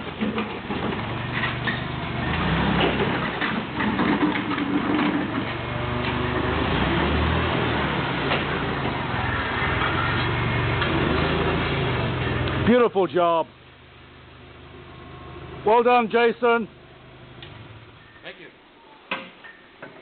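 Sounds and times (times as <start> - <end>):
forklift engine running: 0.0 - 12.8, 13.6 - 18.2.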